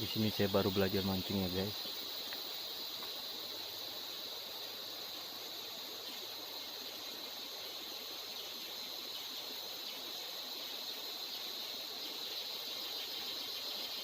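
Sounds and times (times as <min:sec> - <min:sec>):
insects droning: 0:00.0 - 0:14.0
soft hiss: 0:00.0 - 0:14.0.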